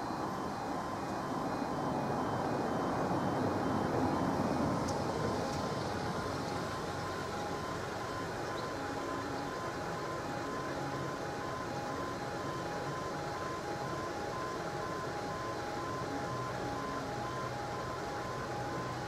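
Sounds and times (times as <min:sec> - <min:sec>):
two-tone warning alarm warbling: 0:00.0 - 0:19.0.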